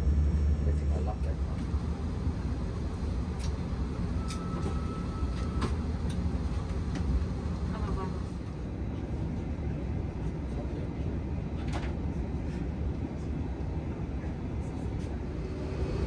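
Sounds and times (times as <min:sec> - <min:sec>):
aircraft cabin roar: 0:00.0 - 0:16.0.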